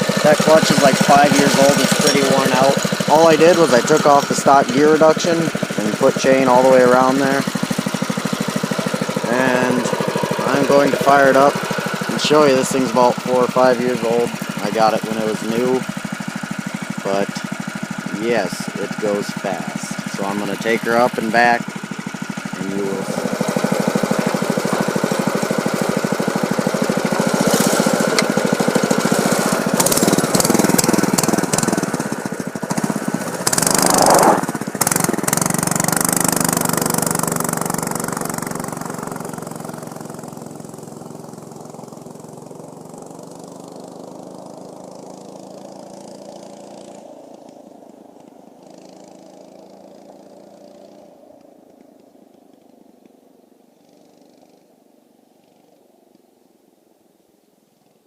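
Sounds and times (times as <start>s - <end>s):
mini bike engine running: 0.0s - 56.2s.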